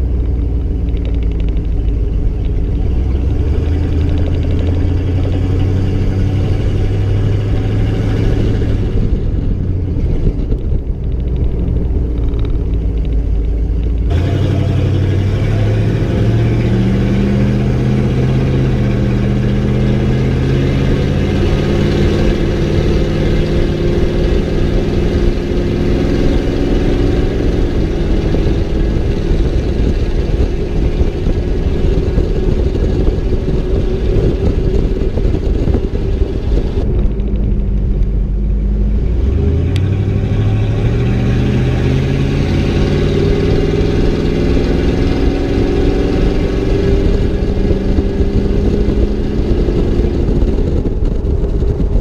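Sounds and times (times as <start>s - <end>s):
loud engine exhaust revving: 0.0s - 52.0s.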